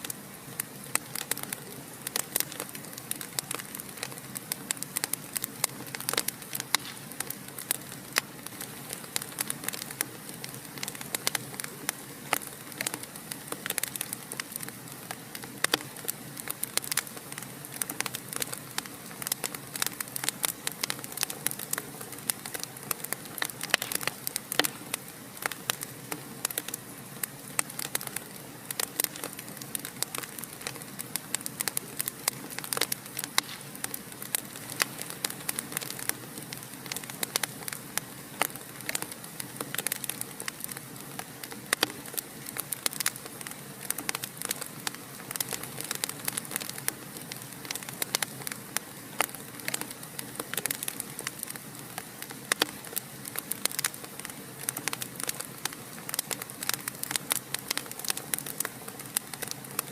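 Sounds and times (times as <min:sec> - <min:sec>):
fire crackling in a fireplace: 0:00.0 - 0:59.9.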